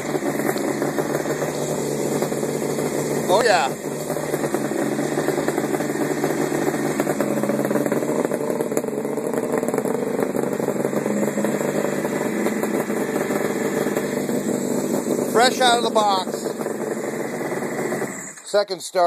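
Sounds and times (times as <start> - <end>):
two-stroke engine idling: 0.0 - 19.0.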